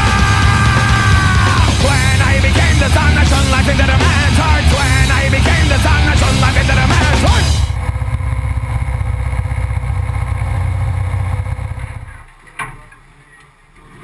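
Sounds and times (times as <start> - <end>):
race car engine running: 0.0 - 12.4.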